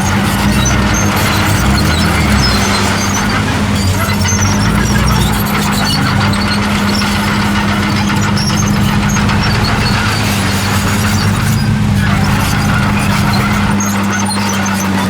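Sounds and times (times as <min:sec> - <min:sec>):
bulldozer diesel engine running: 0:00.0 - 0:15.0
high-pitched squeaks: 0:00.0 - 0:15.0.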